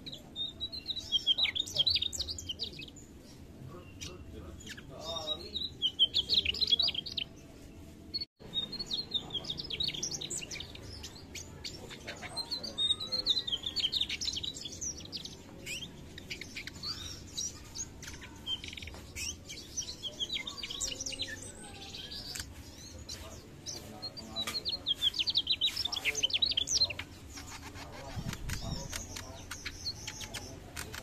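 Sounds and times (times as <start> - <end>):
flycatcher twittering song: 0.0 - 7.4, 8.1 - 31.0.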